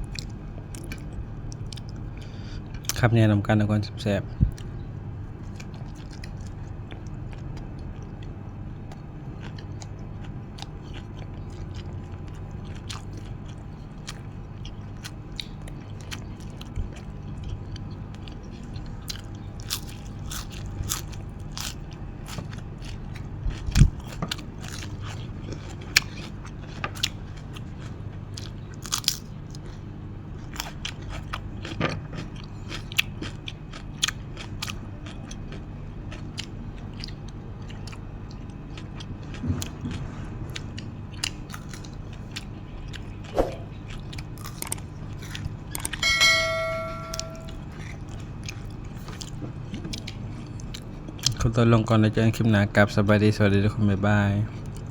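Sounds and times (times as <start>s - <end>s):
chewing and crunching food: 0.0s - 54.9s
steady low hum: 0.0s - 54.9s.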